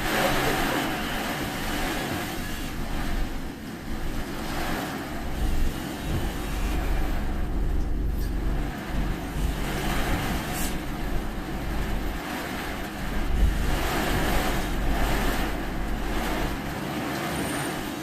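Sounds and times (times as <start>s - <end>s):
engine and tyres rumbling: 0.0s - 18.0s
hiss of rain and water: 0.0s - 18.0s.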